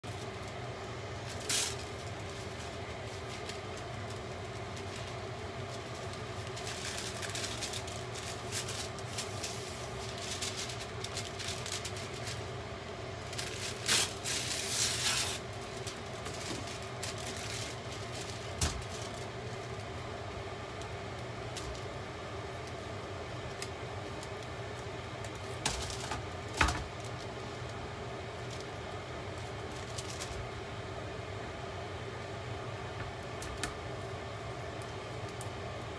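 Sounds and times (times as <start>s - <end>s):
cling wrap crinkling: 0.0s - 30.8s
steady low hum: 0.0s - 35.9s.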